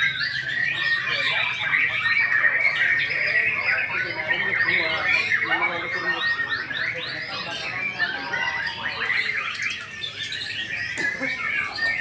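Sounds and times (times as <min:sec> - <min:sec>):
birds singing fast whistles and trills: 0:00.0 - 0:12.0.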